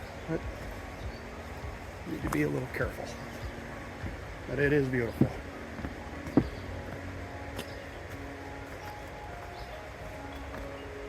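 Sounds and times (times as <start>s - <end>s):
soft music with held notes: 0.0s - 11.0s.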